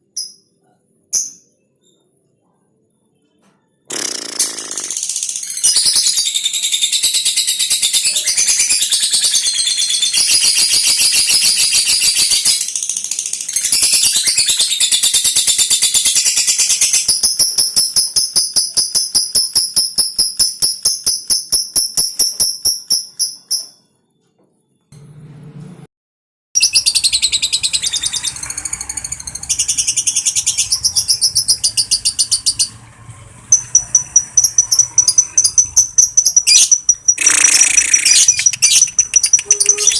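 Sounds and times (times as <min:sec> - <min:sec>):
lovebird chattering in rapid trills: 0:03.9 - 0:23.7, 0:26.6 - 0:32.8, 0:33.5 - 0:39.9.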